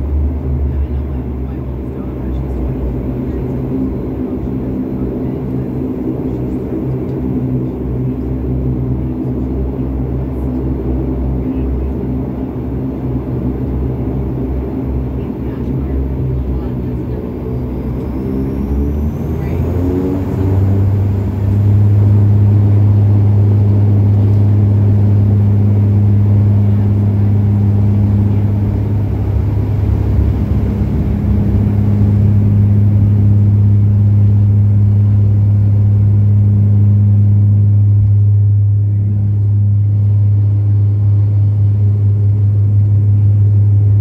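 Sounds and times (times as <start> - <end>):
propeller drone: 0.0 - 44.0
runway rumble: 0.0 - 44.0.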